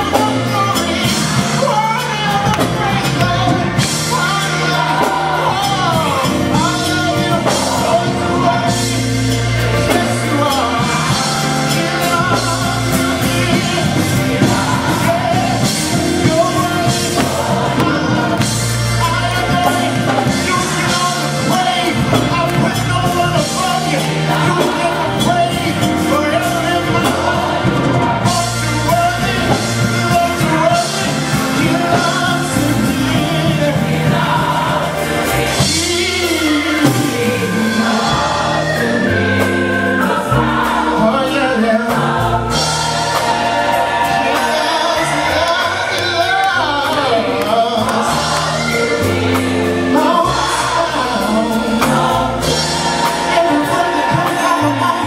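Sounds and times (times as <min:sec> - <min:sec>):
upbeat gospel song with band: 0:00.0 - 0:55.0.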